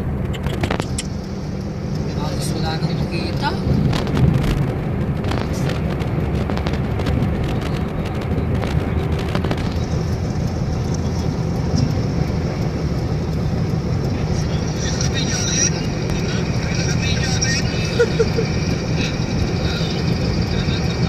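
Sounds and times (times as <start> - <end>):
car cabin rumble: 0.0 - 21.0
sharp ticks: 0.0 - 21.0
steady high whine: 0.0 - 21.0.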